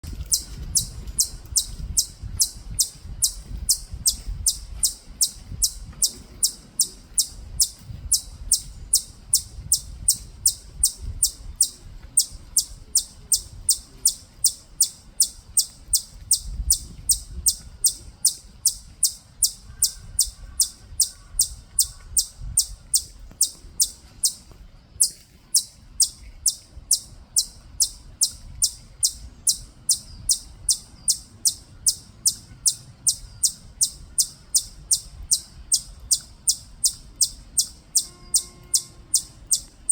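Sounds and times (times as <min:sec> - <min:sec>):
chipmunk high-pitched chirping: 0:00.1 - 0:24.4, 0:25.0 - 0:39.9.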